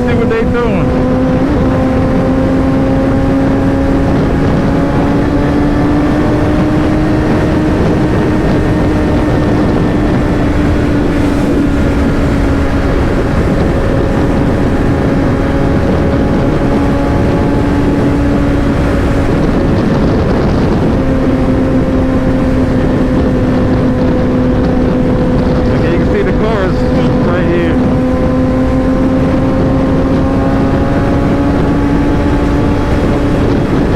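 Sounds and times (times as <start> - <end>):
motorcycle engine cruising: 0.0 - 33.9
wind rushing over microphone: 0.0 - 33.9.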